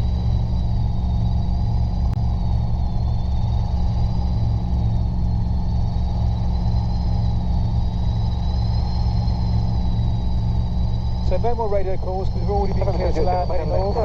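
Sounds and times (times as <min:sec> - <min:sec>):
helicopter pulsing drone: 0:00.0 - 0:14.0
thin high whine: 0:00.0 - 0:14.0.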